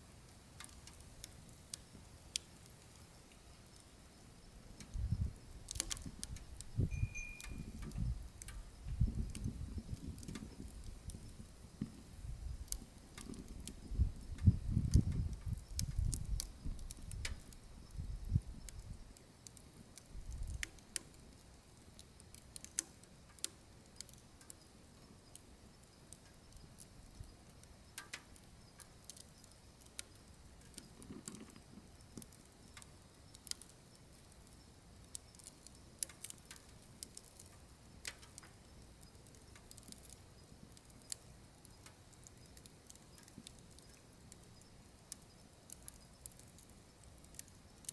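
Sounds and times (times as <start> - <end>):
burning wood crackling: 0.0 - 47.9.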